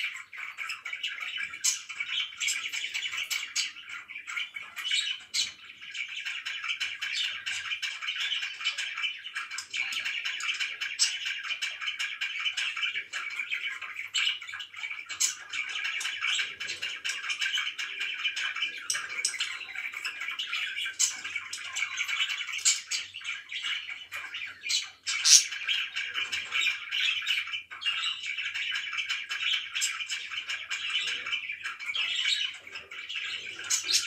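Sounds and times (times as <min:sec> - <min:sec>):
budgerigars chattering and chirping: 0:00.0 - 0:34.0.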